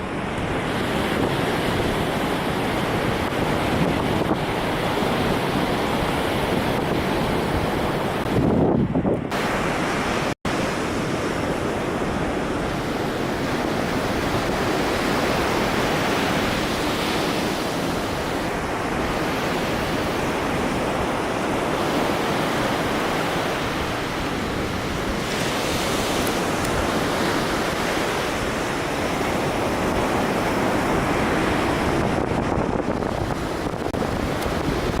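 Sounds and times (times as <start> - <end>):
surf washing: 0.0 - 35.0
wind buffeting microphone: 0.0 - 35.0.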